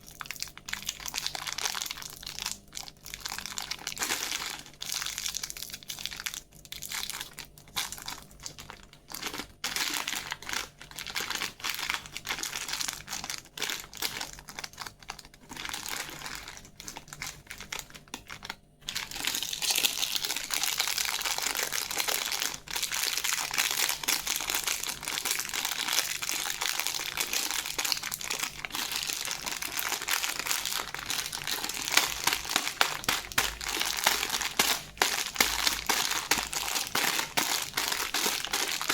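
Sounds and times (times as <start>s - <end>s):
plastic wrappers crinkling: 0.0s - 38.9s.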